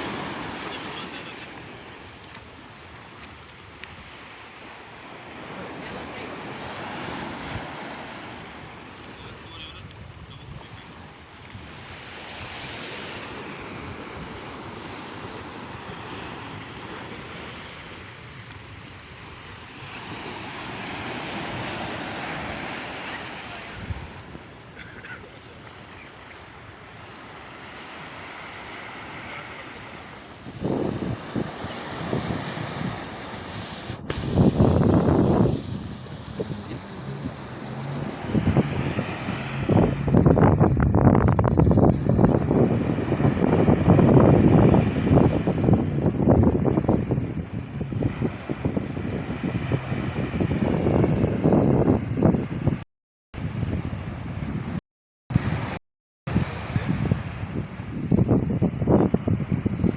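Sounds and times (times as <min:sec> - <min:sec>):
sea waves washing onto beach: 0:00.0 - 0:52.8, 0:53.4 - 0:59.9
wind rumbling on microphone: 0:01.9 - 0:24.8, 0:26.0 - 0:52.8, 0:53.4 - 0:59.9.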